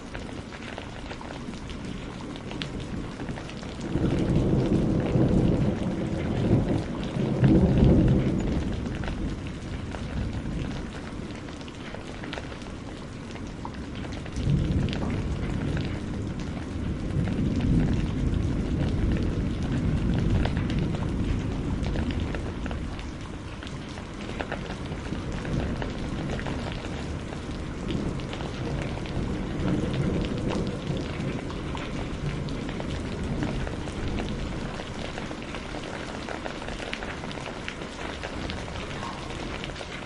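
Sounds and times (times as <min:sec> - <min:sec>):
low rumble of thunder: 0:00.0 - 0:40.0
rain drops pattering: 0:00.0 - 0:40.0.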